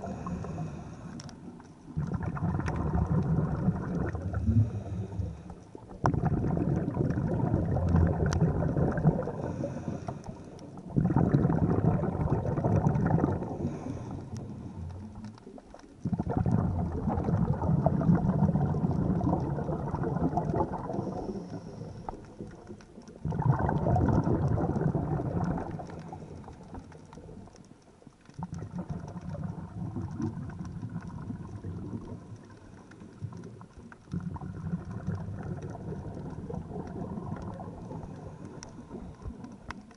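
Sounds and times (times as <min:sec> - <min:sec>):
underwater exhaled bubbles rumbling: 0:00.0 - 0:39.9.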